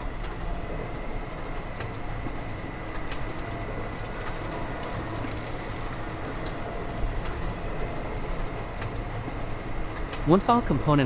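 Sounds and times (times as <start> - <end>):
factory machinery rumble: 0.0 - 11.0.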